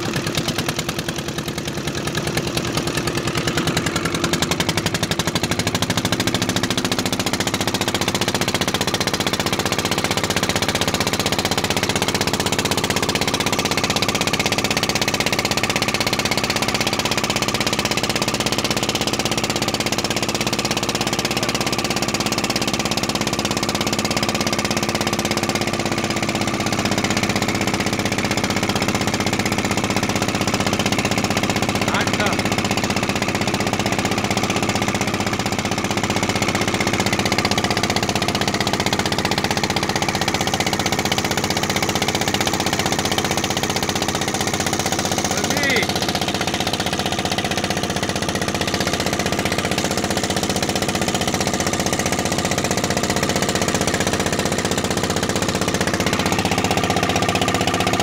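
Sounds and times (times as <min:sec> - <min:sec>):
boat engine pulsing: 0:00.0 - 0:58.0.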